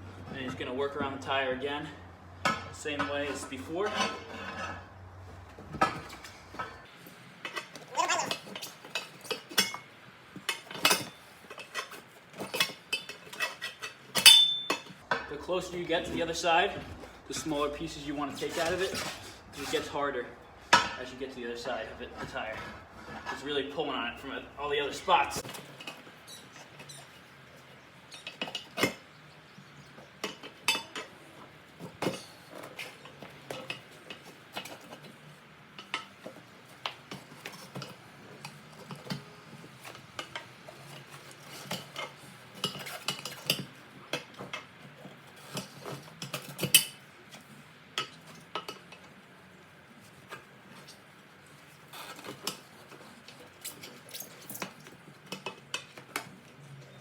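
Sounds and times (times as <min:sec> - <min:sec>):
tire spoons clinking on wheel rim: 0:00.1 - 0:31.1, 0:31.7 - 0:47.2.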